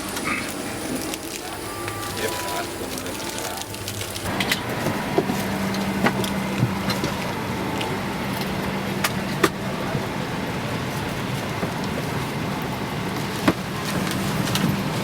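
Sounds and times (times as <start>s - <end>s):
vehicle running with low hum: 0.1s - 15.0s.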